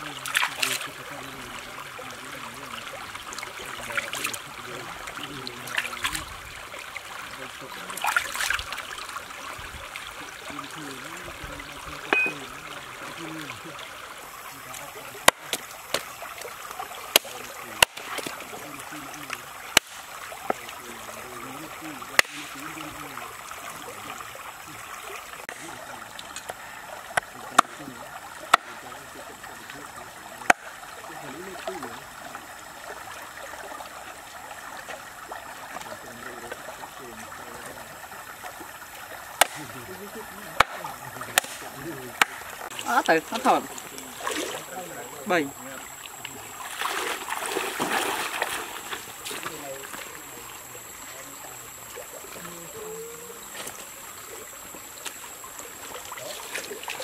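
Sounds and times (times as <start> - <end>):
stream water running: 0.0 - 57.0
water splashing: 0.0 - 57.0.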